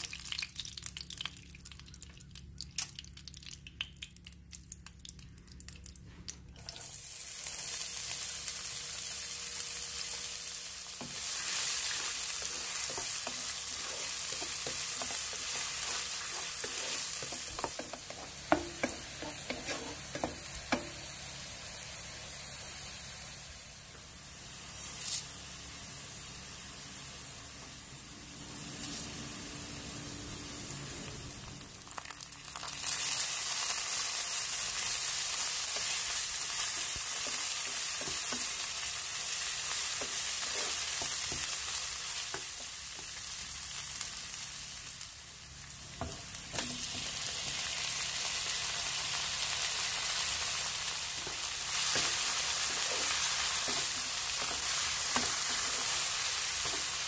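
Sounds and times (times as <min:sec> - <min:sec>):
food sizzling in hot oil: 0:06.6 - 0:57.0.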